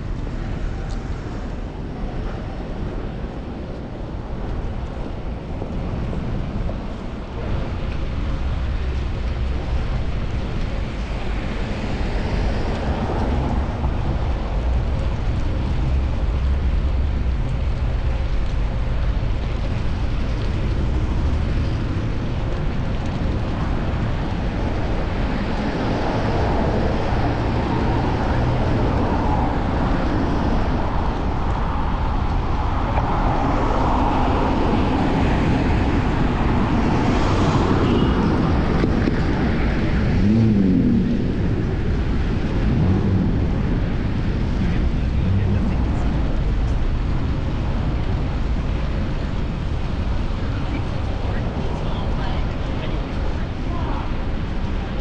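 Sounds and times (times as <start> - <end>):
city traffic noise: 0.0 - 55.0
wind rushing on camera: 0.0 - 55.0.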